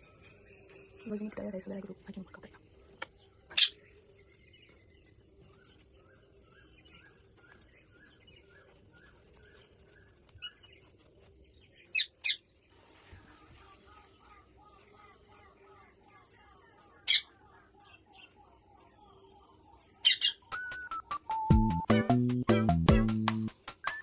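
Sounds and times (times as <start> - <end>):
soft bird chirps: 0.0 - 21.8.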